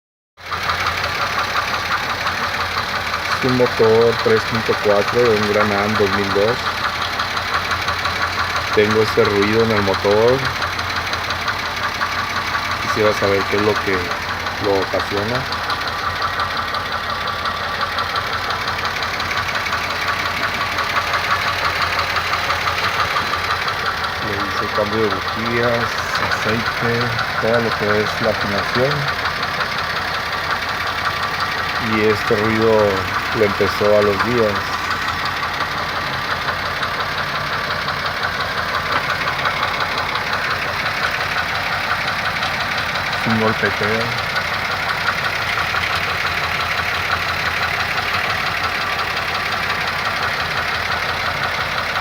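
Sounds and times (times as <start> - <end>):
car engine idling: 0.4 - 52.0
rapid tapping engine knock: 0.4 - 52.0.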